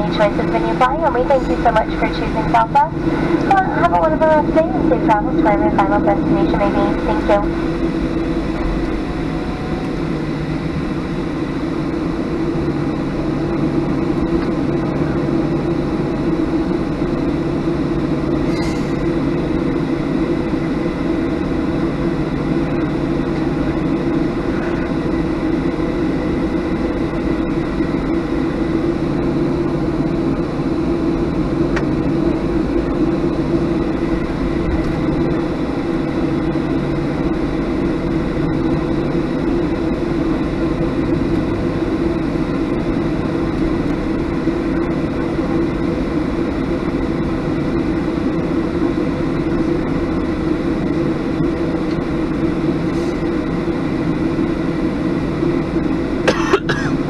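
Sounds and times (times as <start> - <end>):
faint high whine: 0.0 - 56.7
aircraft engine drone in cabin: 0.0 - 57.0.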